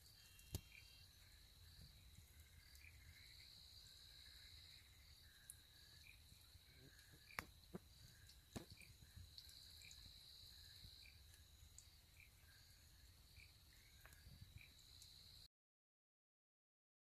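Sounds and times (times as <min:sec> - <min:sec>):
crickets and insects trilling: 0:00.0 - 0:15.5.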